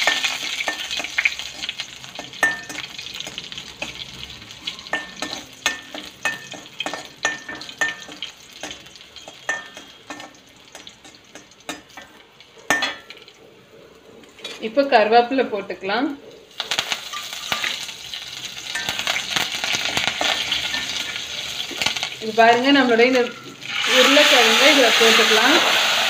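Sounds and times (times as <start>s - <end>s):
garlic sizzling in hot oil: 0.0s - 13.6s, 14.3s - 26.0s.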